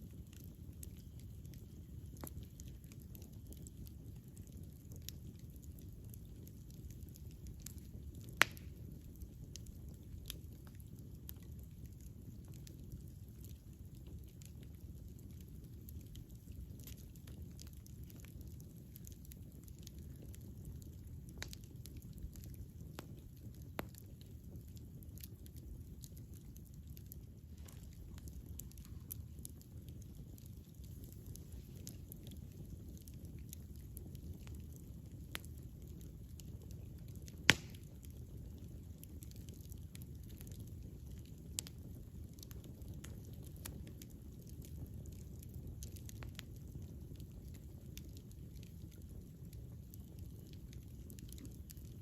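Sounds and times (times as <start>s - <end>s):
campfire crackling and popping: 0.0s - 52.0s
fire rumbling: 0.0s - 52.0s.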